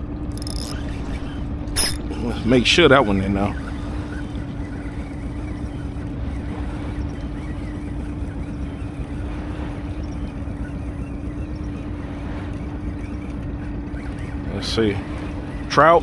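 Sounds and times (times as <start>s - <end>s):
steady motor hum: 0.0s - 15.7s.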